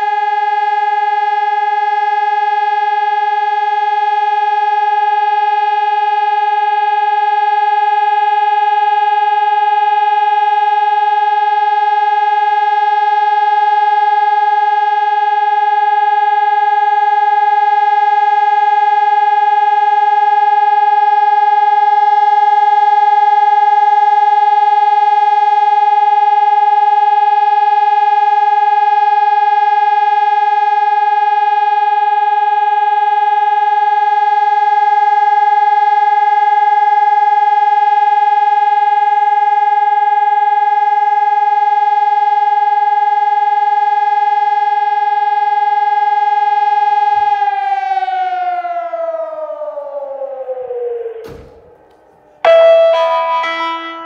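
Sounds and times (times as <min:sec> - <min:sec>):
electronic siren steady tone: 0:00.0 - 0:54.0.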